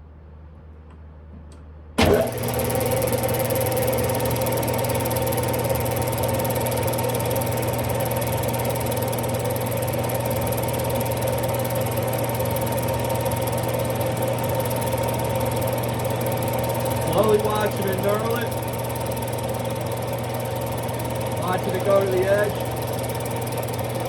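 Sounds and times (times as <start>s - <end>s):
lathe mechanical hum: 2.0s - 24.0s.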